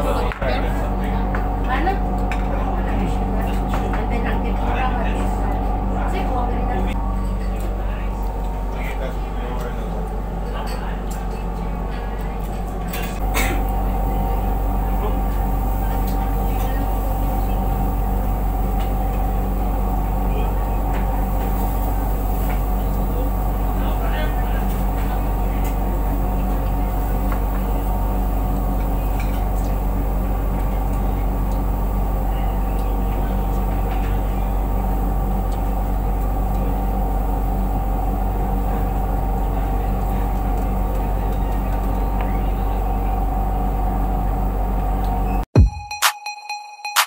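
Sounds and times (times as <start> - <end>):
extraction fans humming: 0.0 - 45.6.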